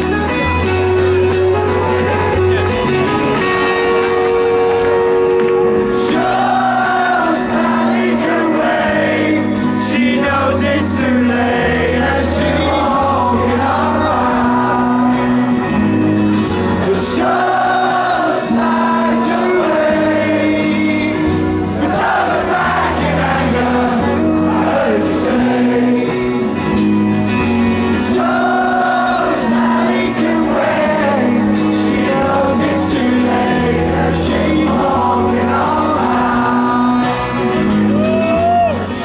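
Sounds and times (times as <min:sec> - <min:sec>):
loud live band music: 0:00.0 - 0:39.0
steady bass line: 0:00.0 - 0:39.0
person singing lead vocal: 0:05.8 - 0:27.0, 0:27.8 - 0:39.0.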